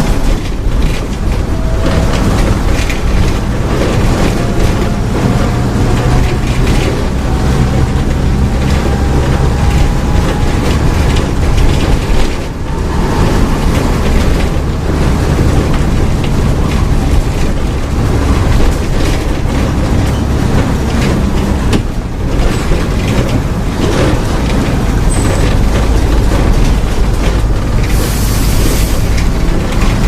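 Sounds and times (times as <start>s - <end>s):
bus diesel engine droning: 0.0s - 30.0s
bus rattles and knocks: 0.0s - 30.0s.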